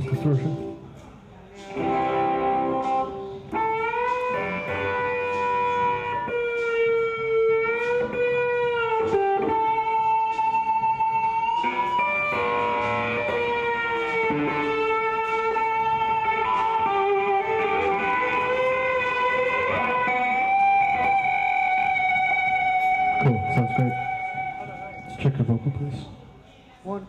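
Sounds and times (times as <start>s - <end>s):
distorted electric guitar notes: 0.0s - 0.9s, 1.7s - 26.4s.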